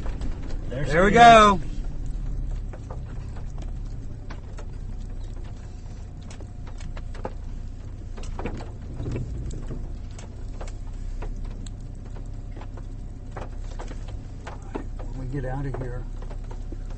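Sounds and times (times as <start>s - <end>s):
vehicle cabin rumble: 0.0s - 16.9s.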